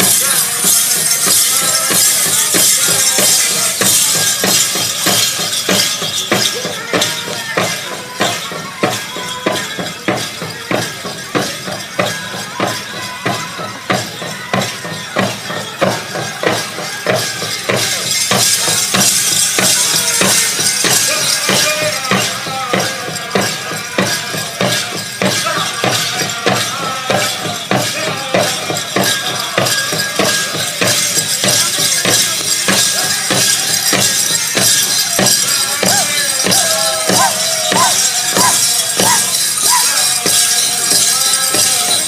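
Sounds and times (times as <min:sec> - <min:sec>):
bells jingling: 0:00.0 - 0:42.0
big drum steady beat: 0:00.0 - 0:42.0
singers' voices: 0:00.0 - 0:42.0.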